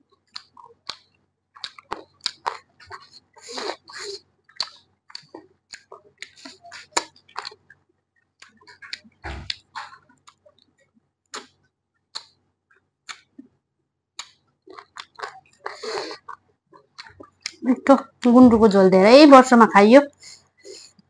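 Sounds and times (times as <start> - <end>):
person chewing with wet smacks: 0.1 - 13.6, 14.2 - 17.7.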